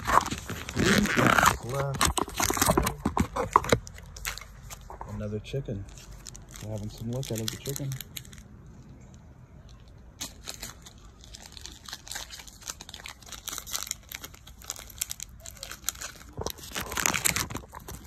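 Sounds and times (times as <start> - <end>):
foil wrapper crinkling: 0.0 - 5.2, 5.8 - 8.5, 10.2 - 18.0.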